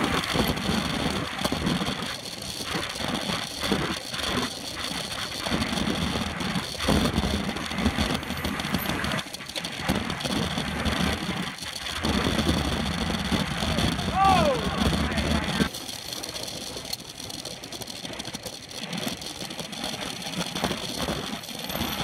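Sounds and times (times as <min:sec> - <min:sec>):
wind and road noise on microphone: 0:00.0 - 0:22.0.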